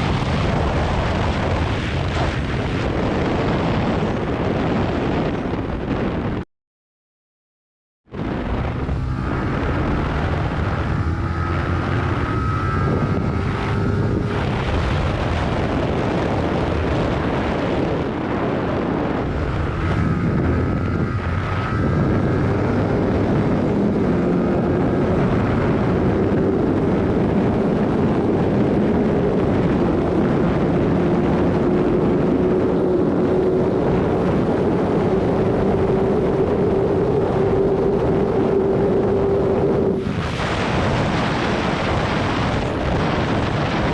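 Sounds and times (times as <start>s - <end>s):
wind on microphone: 0.0s - 6.4s, 8.1s - 43.9s
motorcycle engine accelerating: 8.1s - 43.9s.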